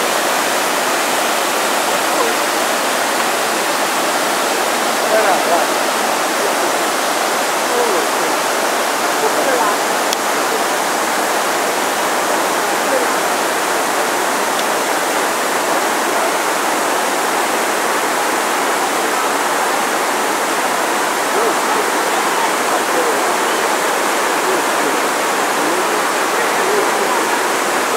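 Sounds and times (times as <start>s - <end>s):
faint voices: 0.0s - 27.9s
waterfall rushing: 0.0s - 27.9s.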